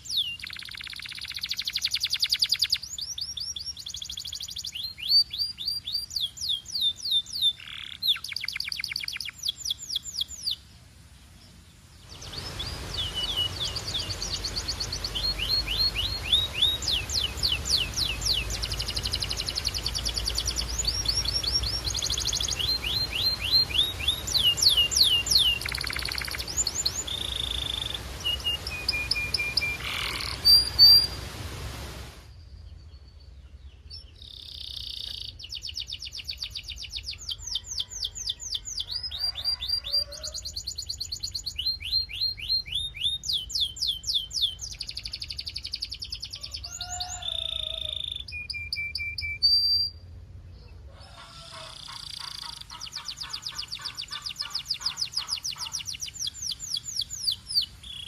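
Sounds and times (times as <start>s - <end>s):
canary singing trills: 0.0s - 10.6s, 12.0s - 31.2s, 33.8s - 58.0s.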